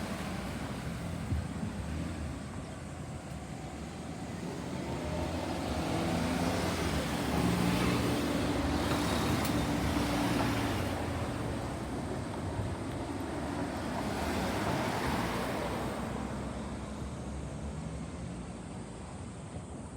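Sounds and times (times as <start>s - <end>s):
vehicles passing: 0.0s - 19.9s.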